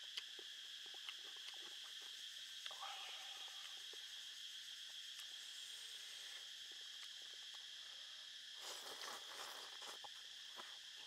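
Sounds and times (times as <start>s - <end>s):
high-pitched insect buzz: 0.0s - 11.0s.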